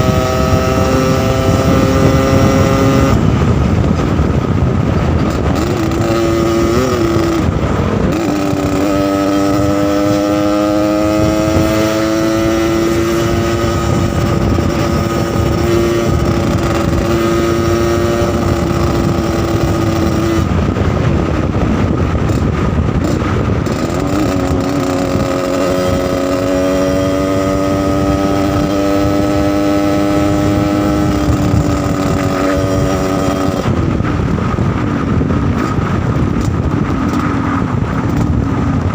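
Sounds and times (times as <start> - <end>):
motorcycle engine revving raspy: 0.0 - 38.9.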